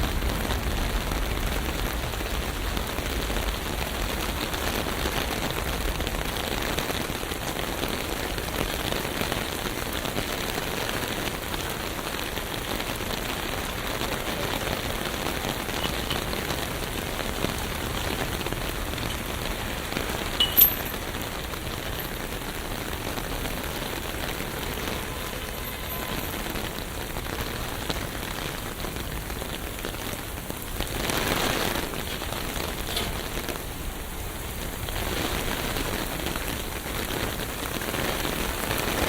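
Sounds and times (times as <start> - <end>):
rain on street: 0.0 - 39.0.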